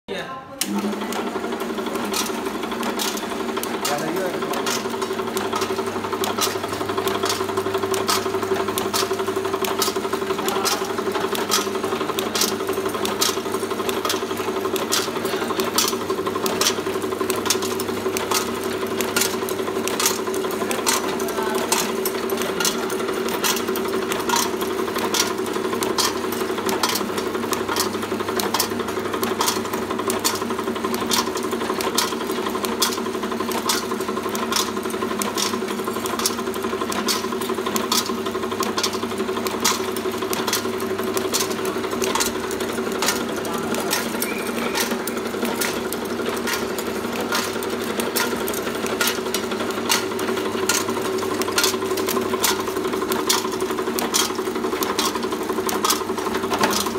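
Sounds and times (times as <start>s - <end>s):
machine motor hum: 0.5s - 56.9s
sharp mechanical clicks: 0.6s - 56.9s.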